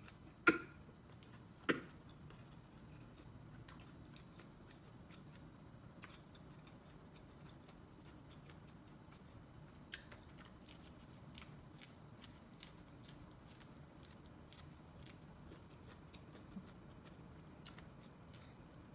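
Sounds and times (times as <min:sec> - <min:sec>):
chewing corn on the cob: 0:01.1 - 0:18.7.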